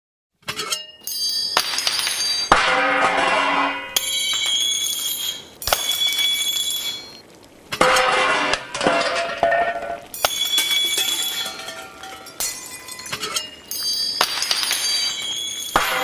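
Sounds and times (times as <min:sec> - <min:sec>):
glassy metallic hits ringing: 0:00.5 - 0:07.2, 0:07.8 - 0:16.0.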